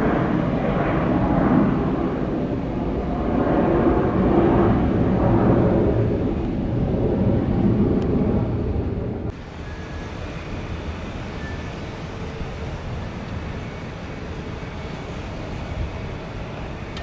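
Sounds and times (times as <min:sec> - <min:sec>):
jet airliner engine noise: 0:00.0 - 0:17.0.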